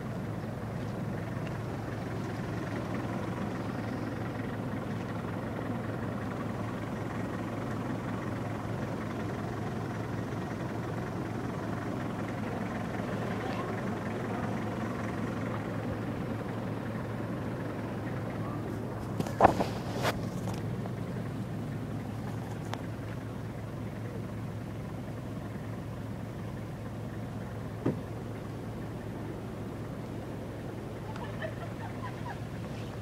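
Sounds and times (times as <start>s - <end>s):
car engine and tyre drone: 0.0s - 33.0s.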